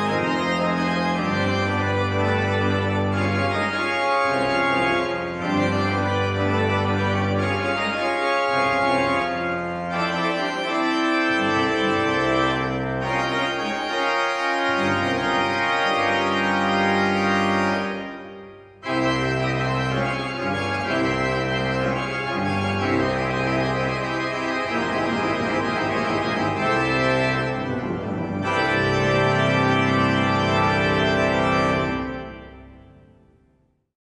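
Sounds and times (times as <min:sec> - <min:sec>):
organ playing sustained chords: 0:00.0 - 0:33.3.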